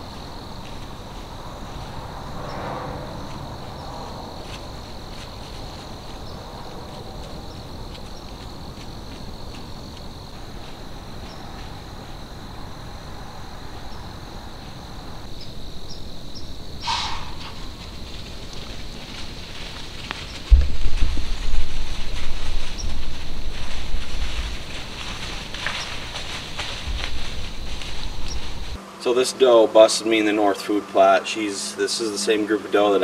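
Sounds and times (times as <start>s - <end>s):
crickets chirping: 0.0s - 33.0s
faint outdoor hiss: 0.0s - 33.0s.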